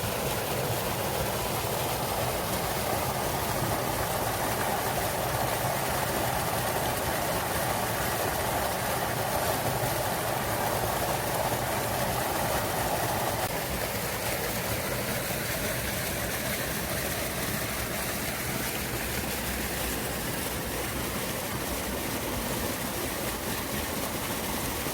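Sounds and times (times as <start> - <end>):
small waterfall splashing: 0.0 - 24.9.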